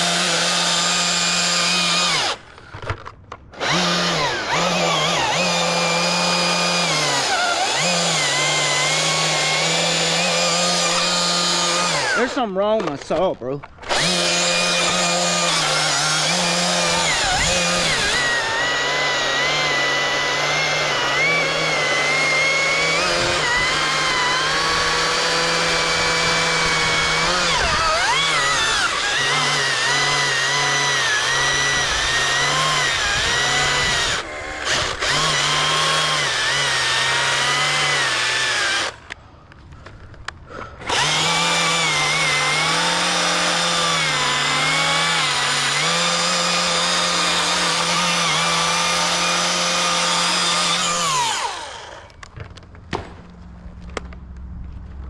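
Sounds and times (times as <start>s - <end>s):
chainsaw motor running: 0.0s - 39.2s, 40.5s - 52.2s.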